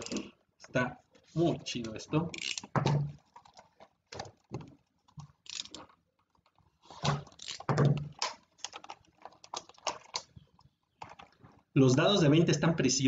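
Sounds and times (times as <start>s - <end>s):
hands handling cardboard and plastic: 0.0s - 12.1s.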